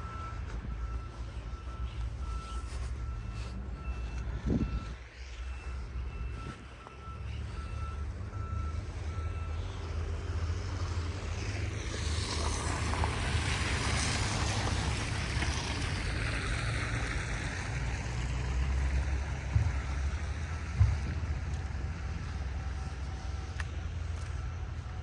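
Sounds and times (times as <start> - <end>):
vehicle passing on snowy street: 0.0 - 25.0
vehicle reversing beeps: 0.0 - 25.0.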